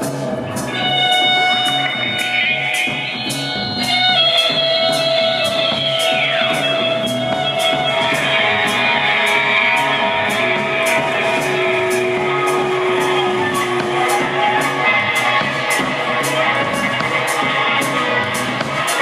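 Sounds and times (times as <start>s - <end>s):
high tapping beat: 0.0s - 19.0s
psychedelic rock band playing: 0.0s - 19.0s.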